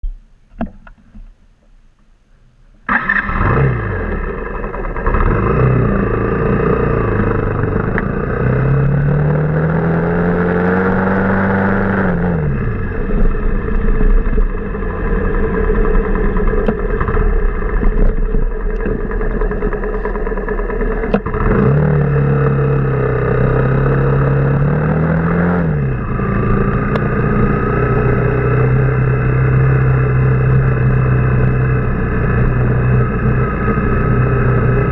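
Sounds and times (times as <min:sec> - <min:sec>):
motorcycle engine accelerating: 0:02.8 - 0:34.9.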